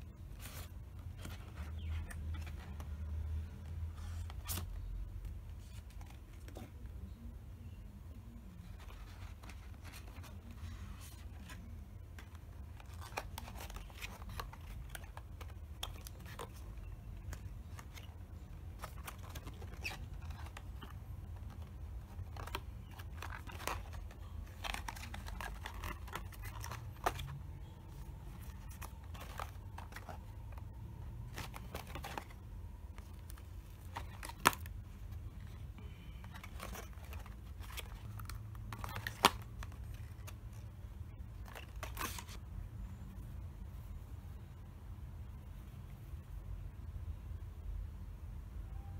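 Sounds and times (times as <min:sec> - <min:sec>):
low steady hum: 0:00.0 - 0:48.9
cardboard and paper rustling: 0:00.1 - 0:07.3, 0:08.5 - 0:42.5.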